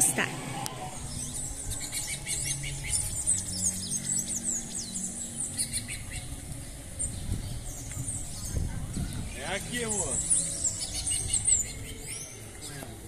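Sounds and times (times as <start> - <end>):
many birds chirping: 0.0 - 13.0.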